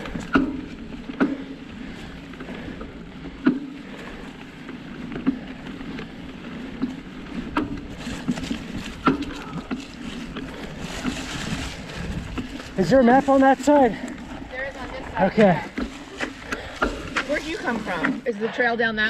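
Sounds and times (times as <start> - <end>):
bike rattling and knocking: 0.0 - 18.7
bike tyres rolling on dirt trail: 0.0 - 19.0.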